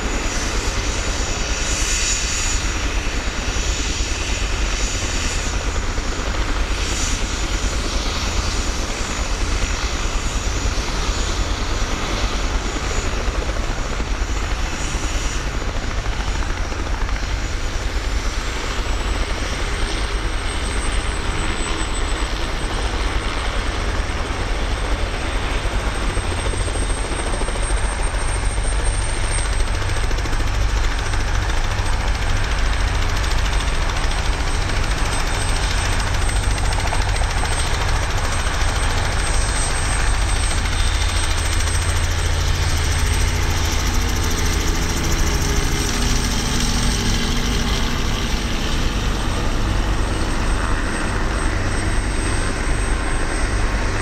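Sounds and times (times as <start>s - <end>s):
helicopter rotor throb: 0.0s - 54.0s.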